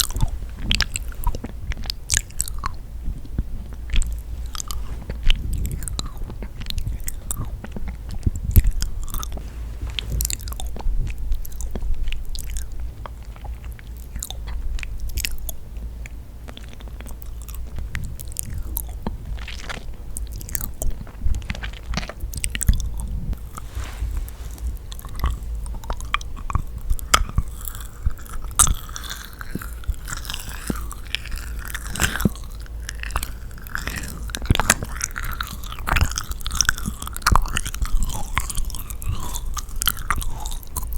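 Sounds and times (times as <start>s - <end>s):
sticky mouth clicks and smacks: 0.0s - 23.6s, 24.6s - 40.9s
chewing sticky cookie: 0.0s - 40.9s.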